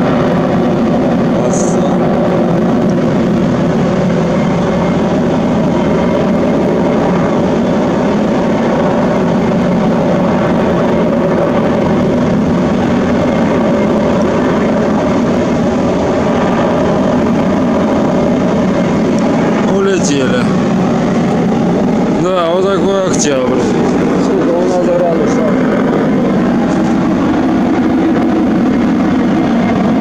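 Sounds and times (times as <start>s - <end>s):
steady mechanical drone: 0.0s - 30.0s.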